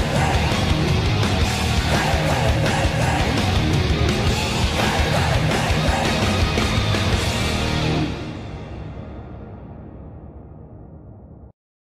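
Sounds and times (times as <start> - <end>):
hard rock music with electric guitar: 0.0 - 9.9.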